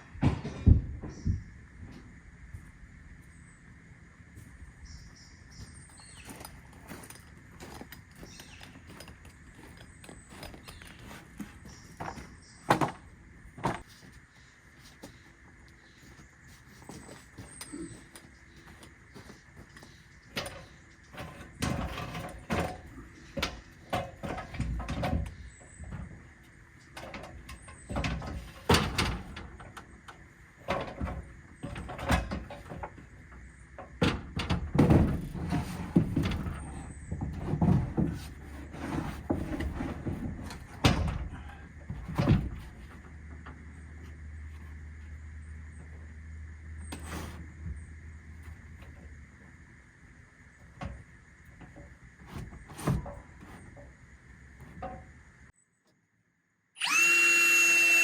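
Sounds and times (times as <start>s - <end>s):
knocks and scraping of building work: 0.0s - 3.4s, 4.3s - 55.6s.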